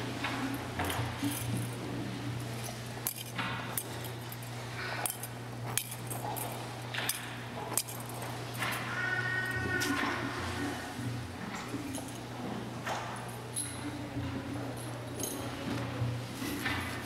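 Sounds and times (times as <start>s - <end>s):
censer chains clinking: 0.4s - 10.7s, 11.5s - 17.0s.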